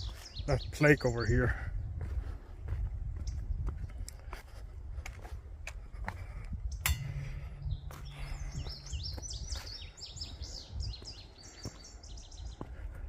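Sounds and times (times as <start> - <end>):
songbird singing: 0.0 - 4.4, 5.7 - 13.0
steady low rumble: 1.7 - 13.0.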